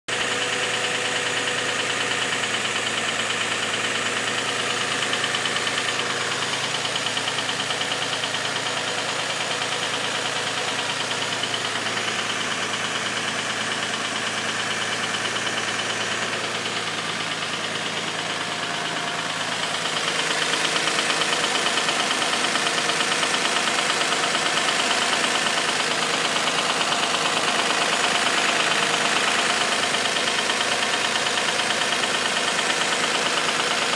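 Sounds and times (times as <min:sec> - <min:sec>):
car engine idling: 0:00.1 - 0:33.9
engine knocking noise: 0:00.1 - 0:33.9.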